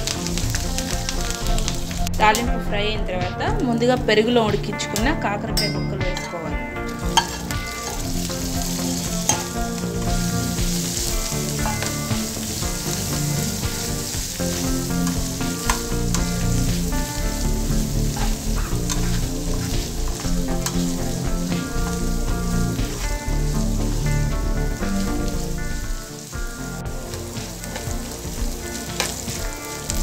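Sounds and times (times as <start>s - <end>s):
food sizzling in hot oil: 0.0s - 2.7s, 4.6s - 30.0s.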